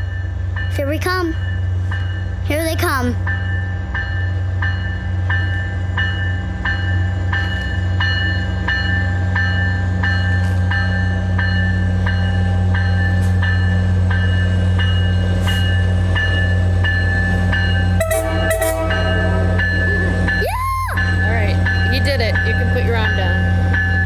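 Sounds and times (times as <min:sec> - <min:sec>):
railroad crossing bell dinging: 0:00.0 - 0:24.0
train rumbling: 0:00.0 - 0:24.0.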